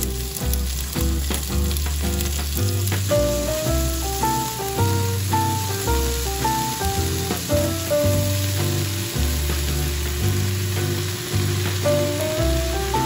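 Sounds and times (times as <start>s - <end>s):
background music with bass line: 0.0s - 13.0s
onions and pork sizzling in a pot: 0.0s - 13.0s.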